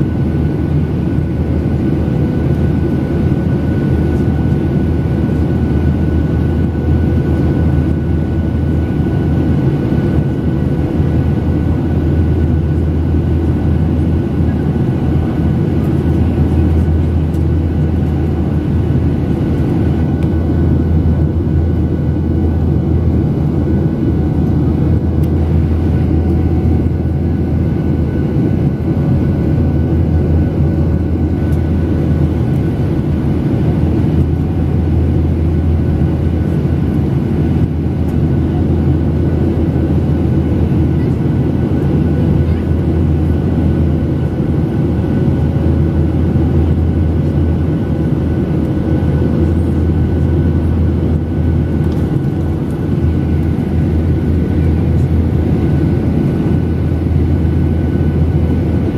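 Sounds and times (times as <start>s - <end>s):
airliner cabin rumble: 0.0s - 58.9s.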